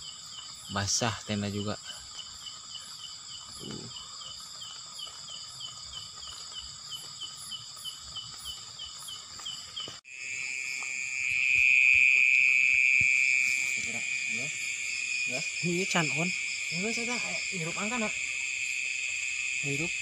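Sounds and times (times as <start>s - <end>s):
cricket chirping: 0.0s - 20.0s
crickets and insects trilling: 0.0s - 20.0s
loud steady insect trill: 0.0s - 20.0s.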